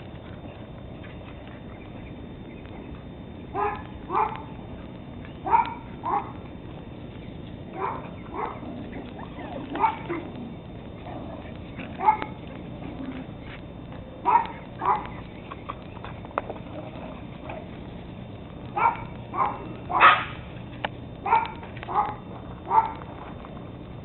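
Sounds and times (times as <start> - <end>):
puppies barking: 0.0 - 17.9, 18.6 - 20.5, 21.2 - 23.2.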